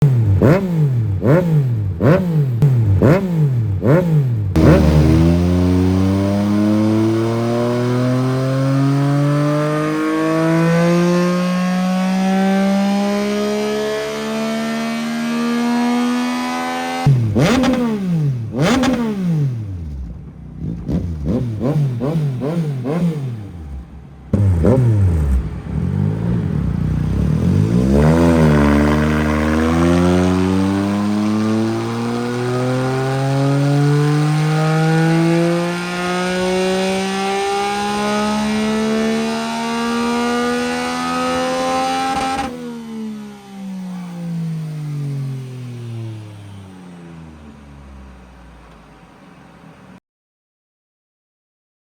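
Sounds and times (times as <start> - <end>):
motorcycle engine revving: 0.0 - 48.7
engine throttle blips: 0.0 - 50.0.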